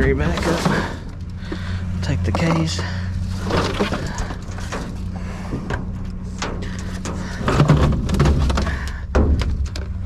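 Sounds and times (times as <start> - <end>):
hard cases and scrap knocking: 0.0 - 10.0
steady low hum: 0.0 - 10.0.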